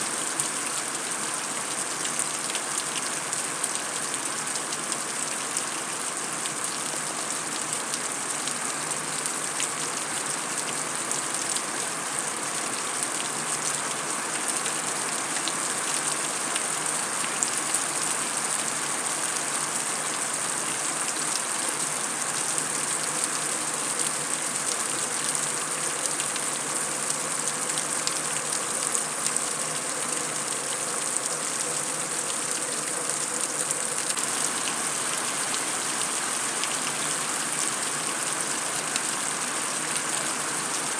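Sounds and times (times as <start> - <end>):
heavy rain on concrete: 0.0 - 40.9.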